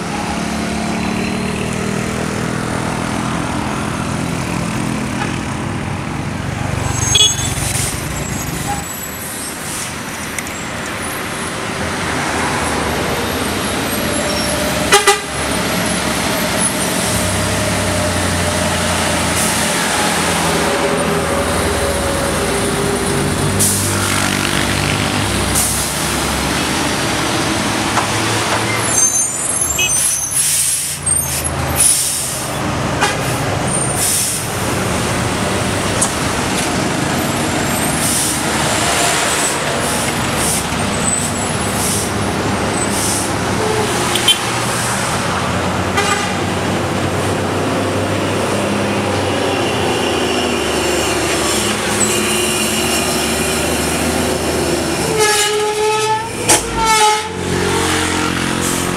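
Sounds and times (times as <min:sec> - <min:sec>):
truck diesel engines passing: 0:00.0 - 0:58.9.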